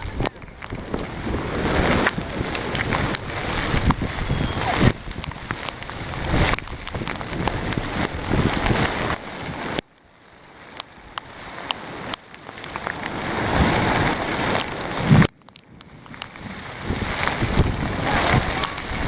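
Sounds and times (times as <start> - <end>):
wind buffeting microphone: 0.0 - 9.8, 11.3 - 19.0
surf: 0.0 - 19.0.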